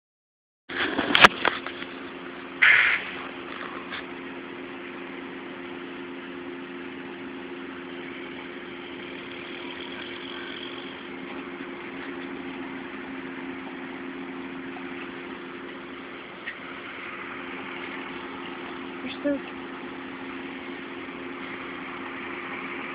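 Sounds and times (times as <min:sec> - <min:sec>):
machine humming: 0:00.7 - 0:22.9.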